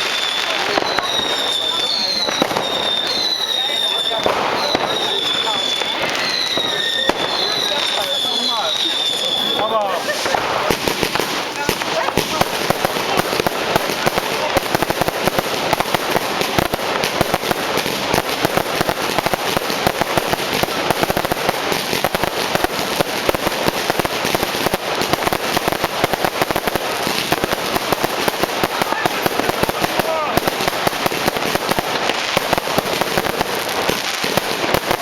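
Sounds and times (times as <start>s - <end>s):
fireworks crackling bangs: 0.0s - 35.0s.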